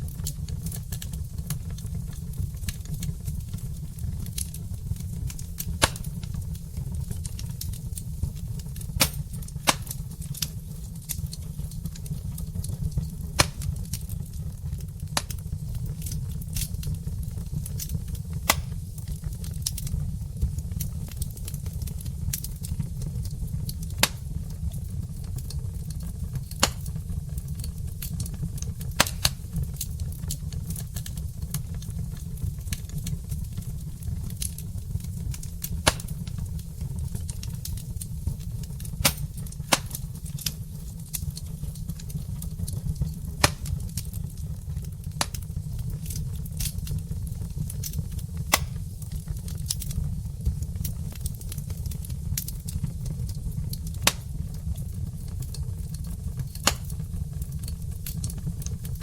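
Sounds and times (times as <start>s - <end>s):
low rumble of burning: 0.0s - 59.0s
wood fire crackling: 0.0s - 59.0s.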